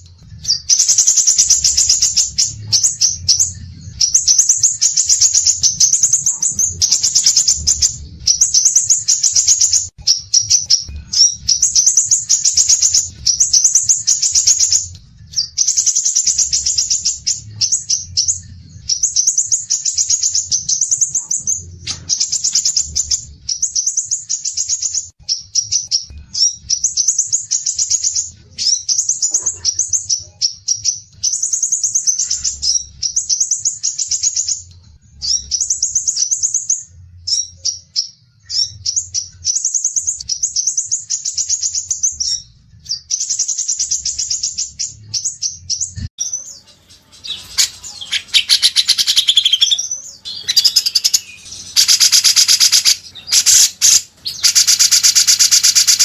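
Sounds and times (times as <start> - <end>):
songbird high-pitched trills: 0.0 - 56.0.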